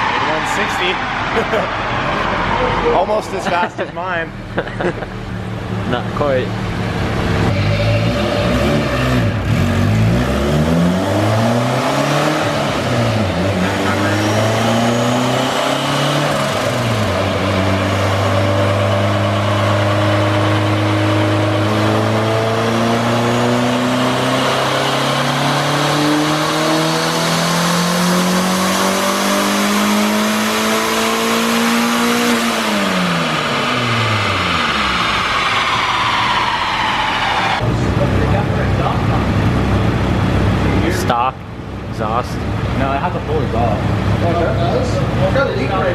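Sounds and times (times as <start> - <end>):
turbocharged car engine revving: 0.0 - 45.9.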